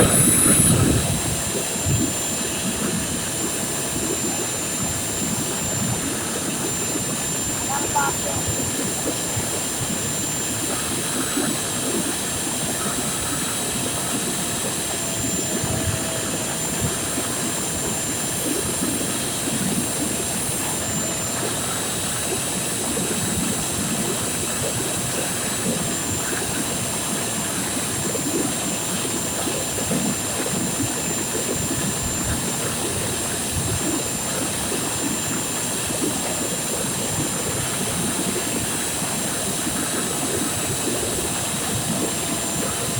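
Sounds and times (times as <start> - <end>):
vacuum cleaner whining: 0.0 - 42.9.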